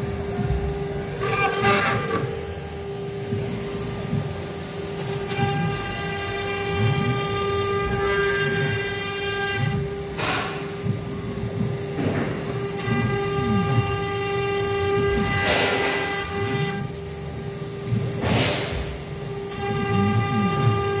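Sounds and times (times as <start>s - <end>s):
router spindle high whine: 0.0s - 21.0s.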